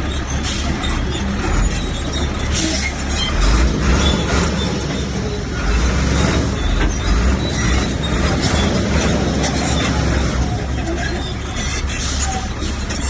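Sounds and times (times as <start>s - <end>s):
bulldozer diesel engine under load: 0.0s - 13.0s
steel tracks clattering: 0.0s - 13.0s.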